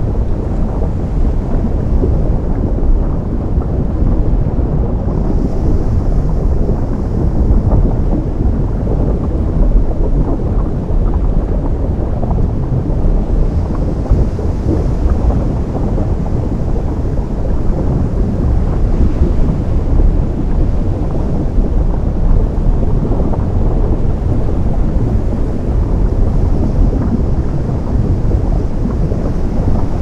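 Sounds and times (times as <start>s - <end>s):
surf rumbling with crackling: 0.0s - 30.0s.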